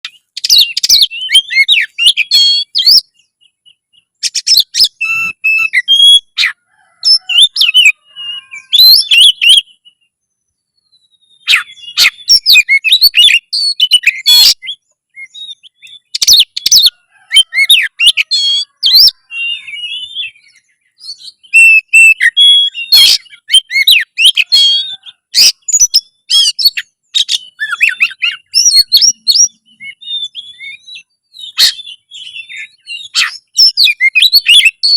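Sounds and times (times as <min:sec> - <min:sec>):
bird whistling and chirping: 0:00.0 - 0:34.9.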